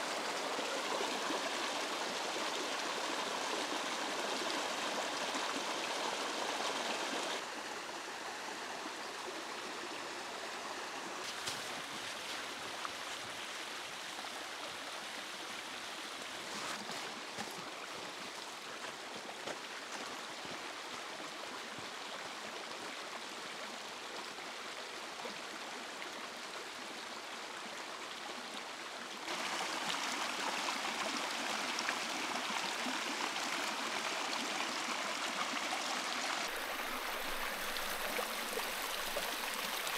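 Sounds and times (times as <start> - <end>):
stream rushing over stones: 0.0 - 22.0, 29.2 - 39.9.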